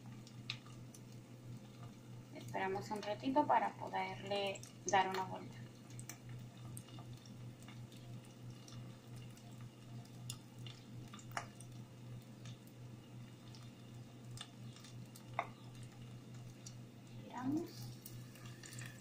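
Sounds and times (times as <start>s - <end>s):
food deep-frying in hot oil: 0.0s - 19.0s
steady low hum: 0.0s - 19.0s.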